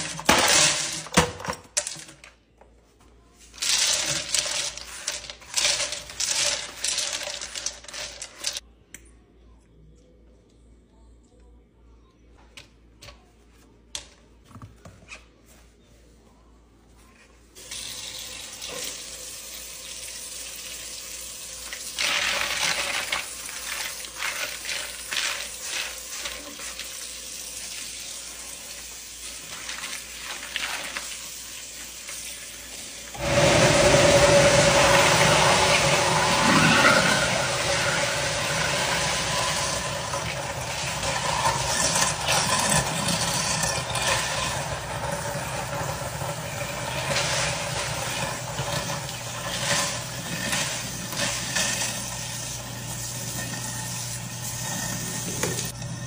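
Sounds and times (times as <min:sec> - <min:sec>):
garbage disposal grinding: 0:00.0 - 0:02.3, 0:03.6 - 0:08.6, 0:17.6 - 0:56.0.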